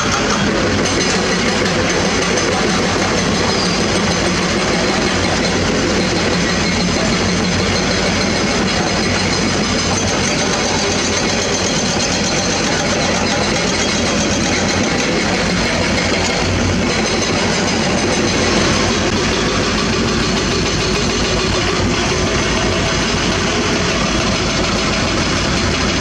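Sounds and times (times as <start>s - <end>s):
excavator diesel engines running: 0.0s - 26.0s.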